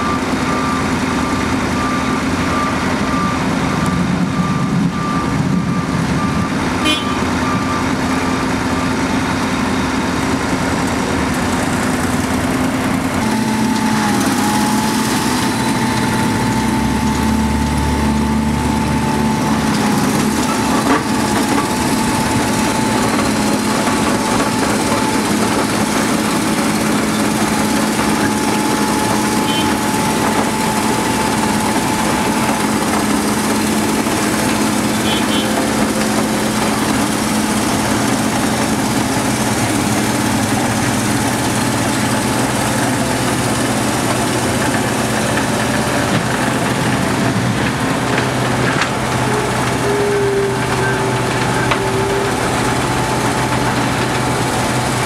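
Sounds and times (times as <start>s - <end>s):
road milling machine running: 0.0s - 55.0s
truck reversing beeper: 0.0s - 55.0s.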